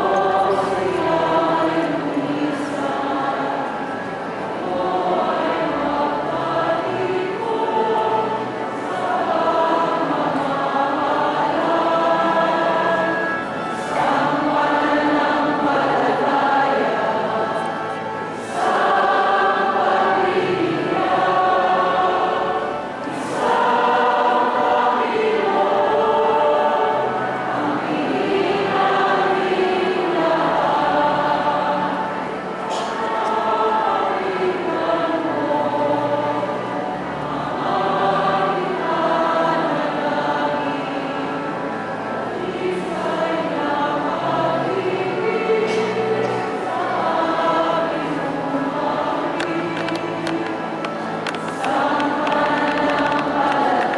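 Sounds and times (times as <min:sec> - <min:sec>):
choir singing a hymn: 0:00.0 - 0:53.9.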